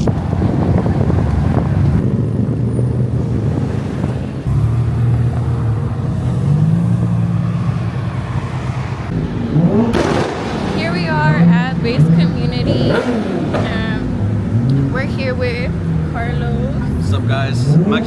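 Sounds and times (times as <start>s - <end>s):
car engines rumbling: 0.0s - 18.0s.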